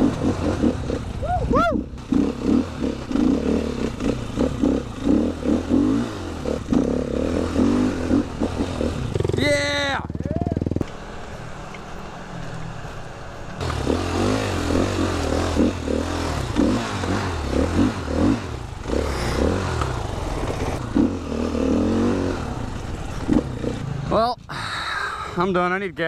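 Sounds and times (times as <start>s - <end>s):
motorcycle engine revving: 0.0s - 24.3s.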